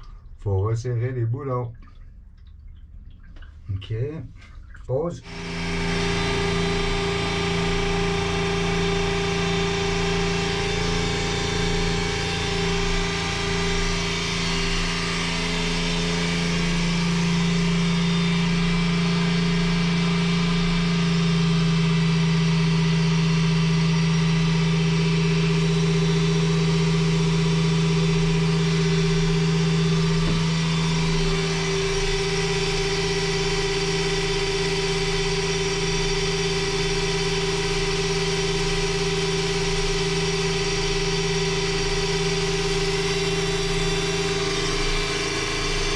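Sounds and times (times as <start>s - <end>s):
electric pump humming: 0.0s - 45.9s.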